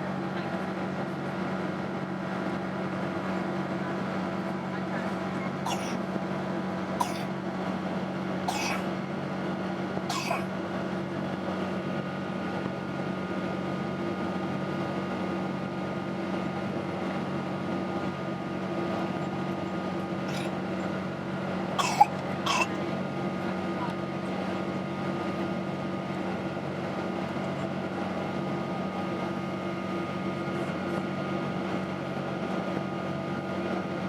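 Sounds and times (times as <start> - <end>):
airplane cabin drone: 0.0 - 33.8.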